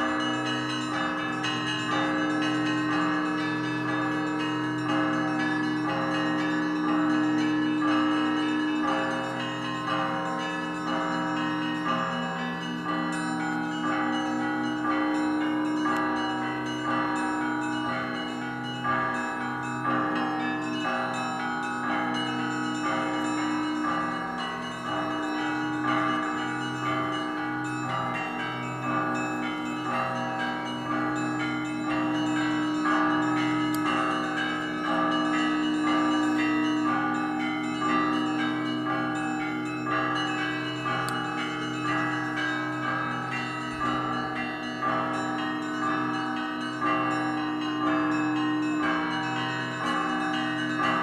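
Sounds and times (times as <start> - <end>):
lower bells struck: 0.0 - 51.0
small bells chiming: 0.0 - 51.0.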